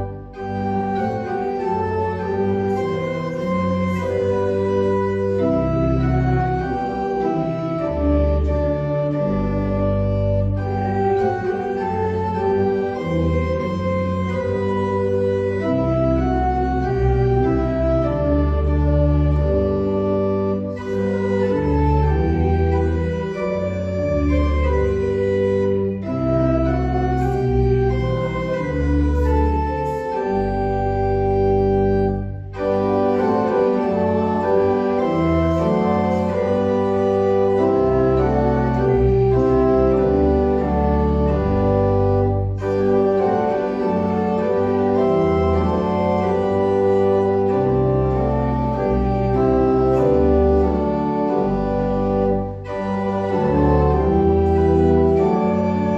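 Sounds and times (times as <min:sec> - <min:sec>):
church organ chords: 0:00.0 - 0:55.9.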